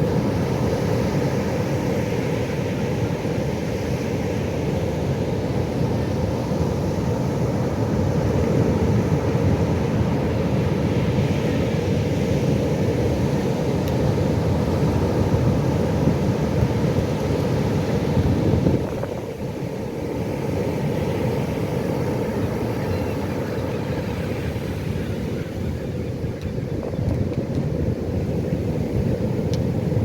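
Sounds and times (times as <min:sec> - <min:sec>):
ocean surf rushing: 0:00.0 - 0:30.0.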